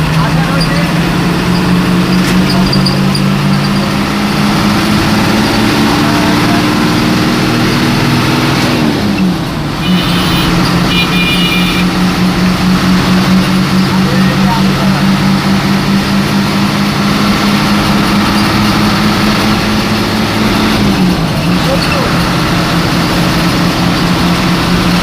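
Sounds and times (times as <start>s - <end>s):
bus engine droning: 0.0s - 25.0s.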